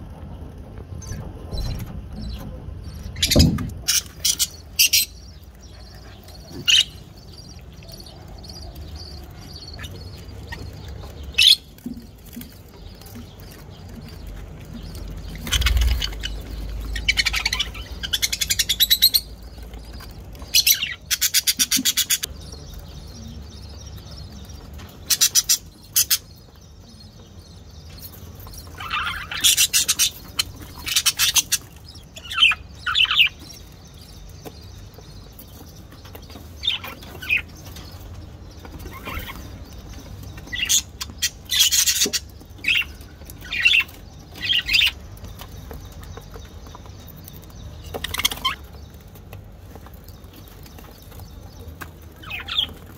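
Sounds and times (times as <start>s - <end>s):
budgerigars chirping: 1.0s - 49.1s, 49.7s - 52.9s.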